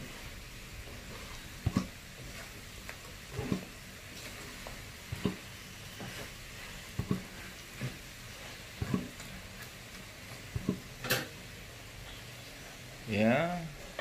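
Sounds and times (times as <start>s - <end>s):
utensil scraping frying pan: 0.0s - 13.0s
fish skin sizzling: 0.0s - 14.0s.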